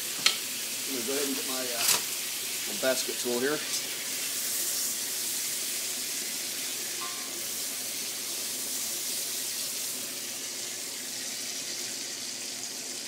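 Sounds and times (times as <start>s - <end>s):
pork sizzling in a wok: 0.0s - 13.0s.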